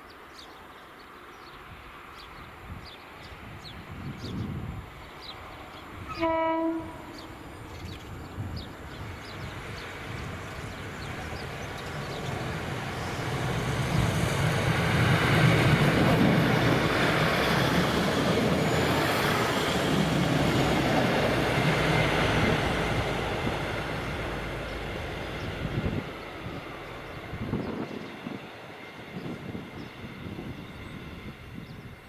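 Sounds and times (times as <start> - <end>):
train engine rumble: 1.2 - 32.0.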